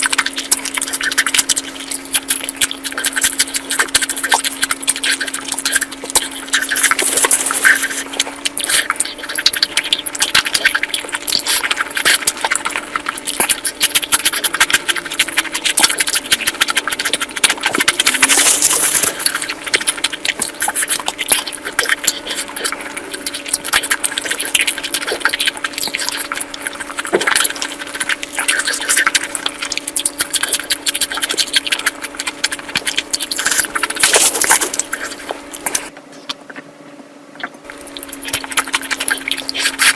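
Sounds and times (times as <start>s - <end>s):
person chewing and smacking: 0.0s - 36.7s, 37.3s - 39.9s.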